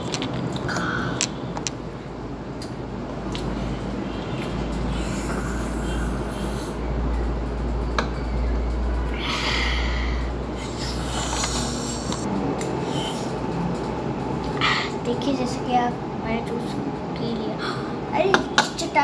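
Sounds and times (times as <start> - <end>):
room hum and hiss: 0.0 - 19.0.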